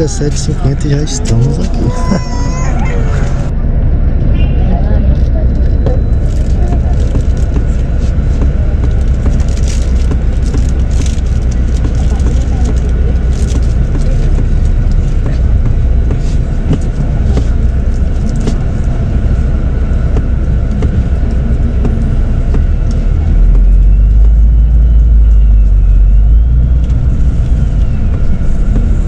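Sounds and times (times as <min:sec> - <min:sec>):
diesel engine rumbling: 0:00.0 - 0:29.0.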